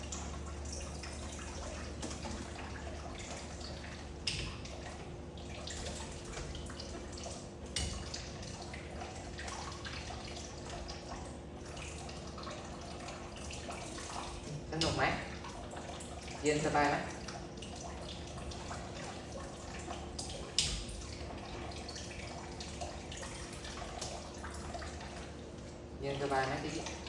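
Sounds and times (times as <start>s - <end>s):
water running and dripping: 0.0s - 27.0s.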